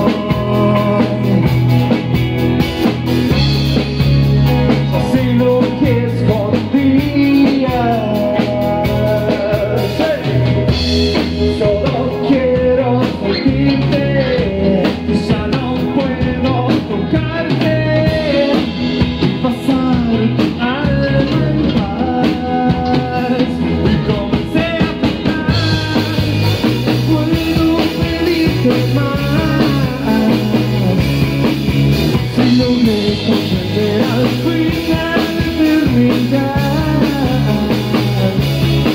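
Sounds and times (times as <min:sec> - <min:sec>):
person singing lead vocal: 0:00.0 - 0:02.5, 0:03.3 - 0:38.9
bass guitar: 0:00.0 - 0:38.9
drum kit: 0:00.0 - 0:38.9
electric guitar: 0:00.0 - 0:38.9.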